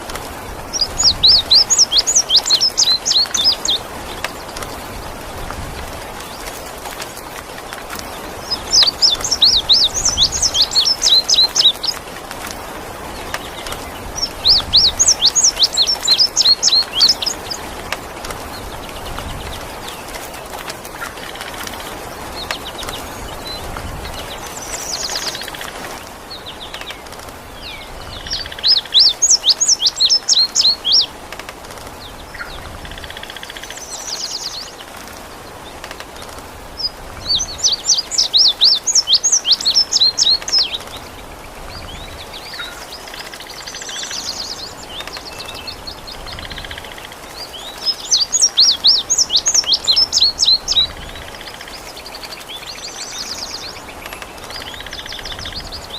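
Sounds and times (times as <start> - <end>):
rain hiss: 0.0 - 55.9
soft bird calls: 0.0 - 55.9.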